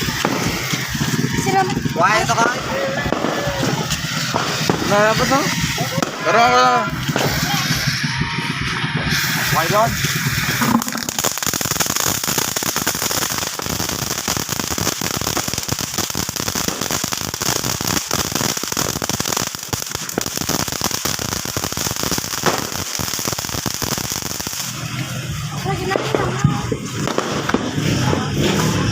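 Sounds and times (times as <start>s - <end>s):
firework crackling: 0.0s - 28.9s
fountain firework hissing: 0.0s - 28.9s.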